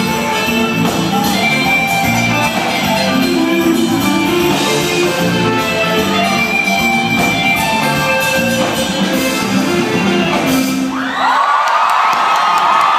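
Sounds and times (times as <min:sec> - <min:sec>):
live band music: 0:00.0 - 0:11.2.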